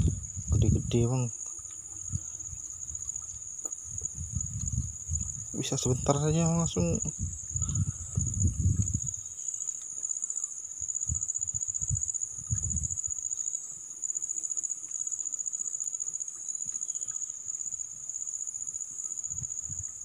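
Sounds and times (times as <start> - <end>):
insect trill: 0.0 - 20.0.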